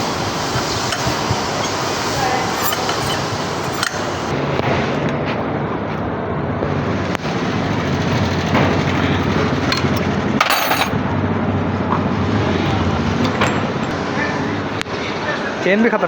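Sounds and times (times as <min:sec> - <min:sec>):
vehicle engines droning: 0:00.0 - 0:16.0.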